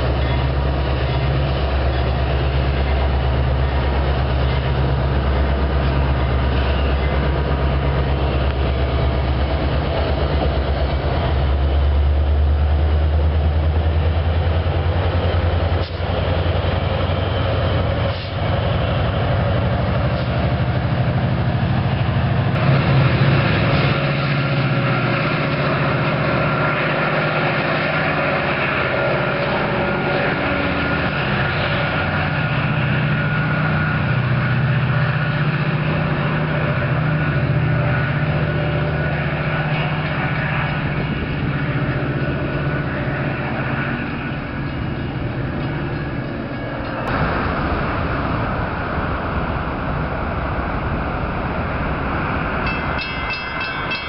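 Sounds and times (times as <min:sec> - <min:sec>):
diesel train engine drone: 0:00.0 - 0:54.0
train rumble with whine: 0:00.0 - 0:54.0.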